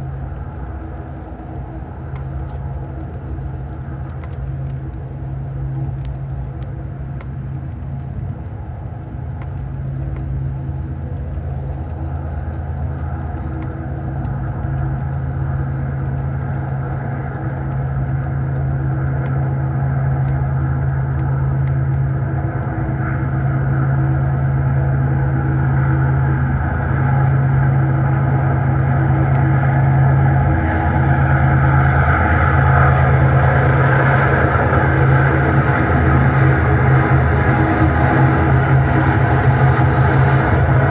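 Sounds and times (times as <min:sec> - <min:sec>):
diesel locomotive engine hum: 0:00.0 - 0:40.9.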